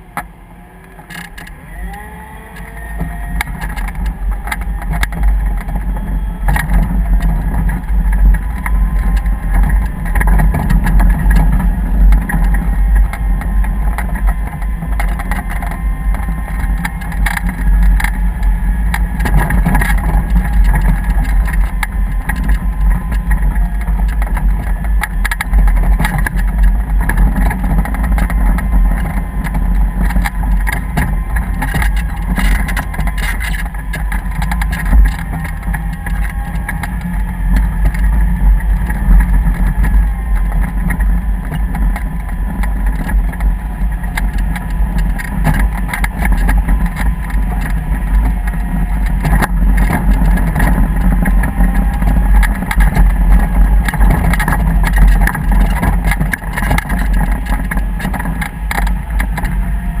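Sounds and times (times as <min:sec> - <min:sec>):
clicks and rattles: 0:00.0 - 0:01.7, 0:02.6 - 1:00.0
vehicle engine rumbling: 0:00.0 - 1:00.0.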